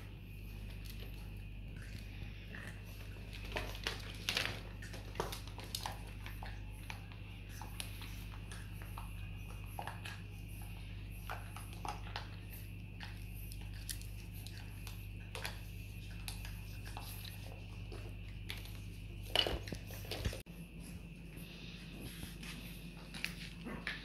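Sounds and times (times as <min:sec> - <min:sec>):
steady low hum: 0:00.0 - 0:24.0
puppy claws clicking on tile: 0:00.7 - 0:20.4.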